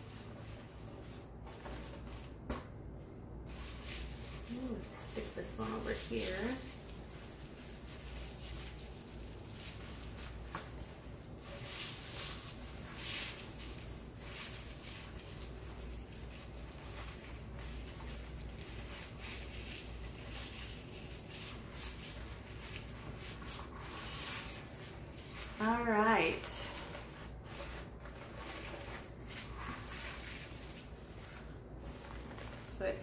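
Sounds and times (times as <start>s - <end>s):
ribbon and mesh rustling: 3.4s - 33.0s.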